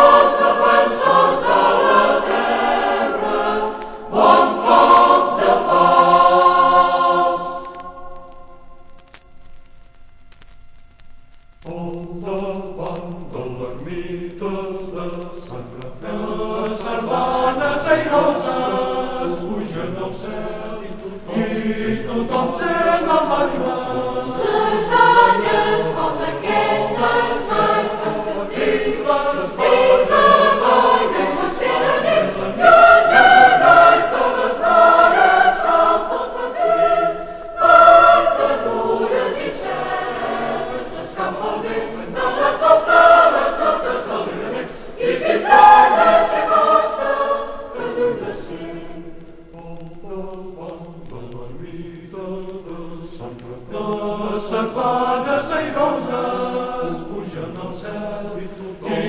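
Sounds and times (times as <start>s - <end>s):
choir singing: 0.0s - 9.1s, 11.7s - 59.0s.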